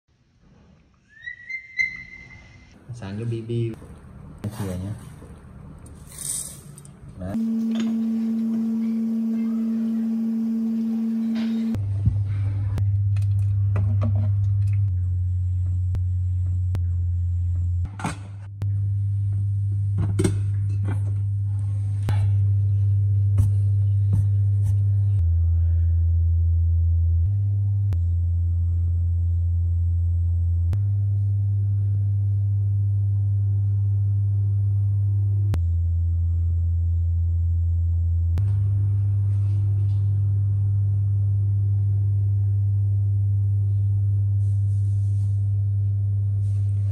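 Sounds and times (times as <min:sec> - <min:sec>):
low held bass notes: 0:07.2 - 0:46.9.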